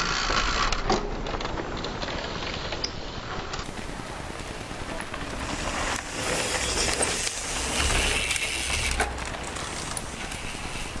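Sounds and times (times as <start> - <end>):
bike tyres rolling on dirt: 0.0 - 11.0.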